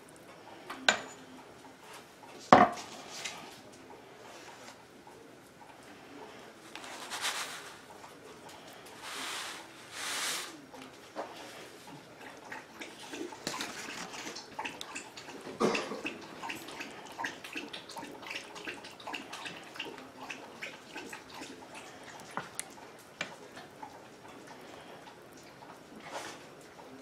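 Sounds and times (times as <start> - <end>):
spoon stirring thick soup: 0.2 - 27.0.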